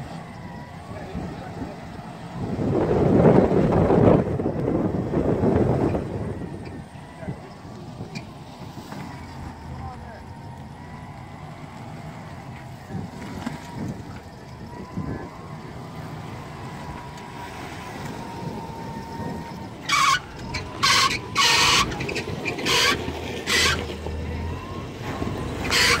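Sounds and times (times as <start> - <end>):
faint steady whine: 0.0 - 26.0
truck engine at low revs: 0.0 - 26.0.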